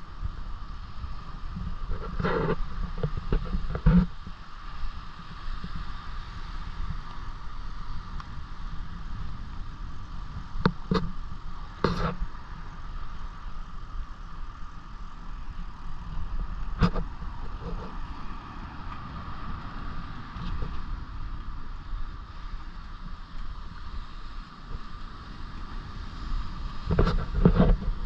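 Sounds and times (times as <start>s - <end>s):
steady outdoor rush: 0.0s - 28.0s
wind buffeting microphone: 0.0s - 28.0s.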